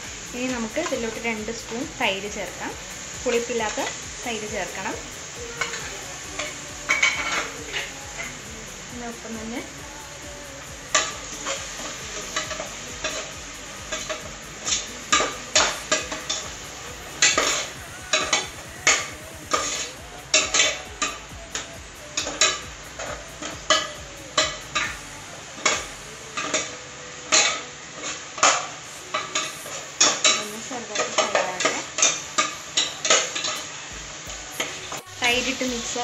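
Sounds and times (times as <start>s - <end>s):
masala sizzling in oil: 0.0s - 36.0s.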